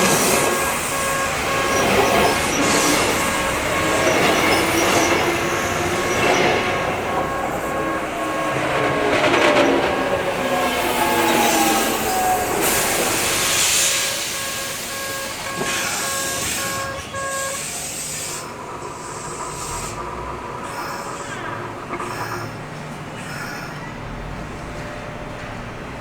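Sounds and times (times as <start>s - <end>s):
level crossing alarm ringing: 0.0s - 26.0s
train running noise: 0.0s - 26.0s.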